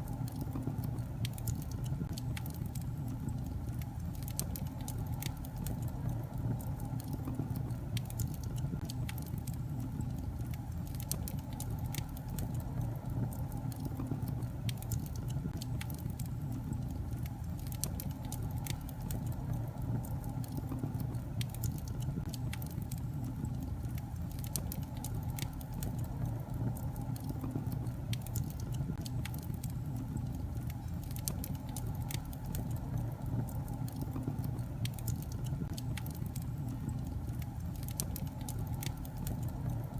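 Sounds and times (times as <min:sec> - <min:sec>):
logs crackling and popping: 0:00.0 - 0:39.9
rumble of fire flames: 0:00.0 - 0:39.9.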